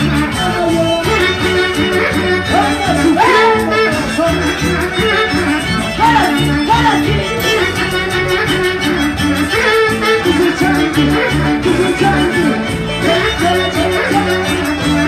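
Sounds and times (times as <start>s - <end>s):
live band music: 0.0s - 15.0s
violin melody: 0.0s - 15.0s.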